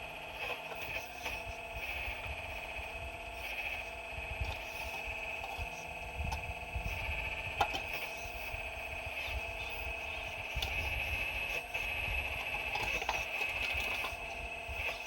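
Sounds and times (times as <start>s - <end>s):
excavator hydraulic whine: 0.0s - 15.0s.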